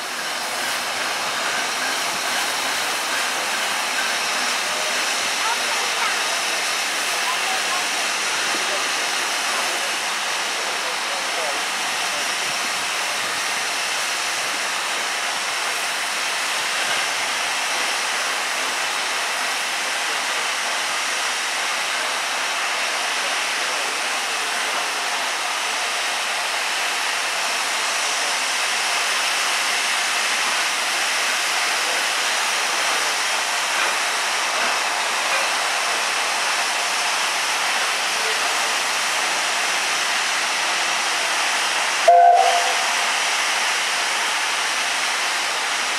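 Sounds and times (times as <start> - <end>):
steam hissing from safety valves: 0.0 - 45.9.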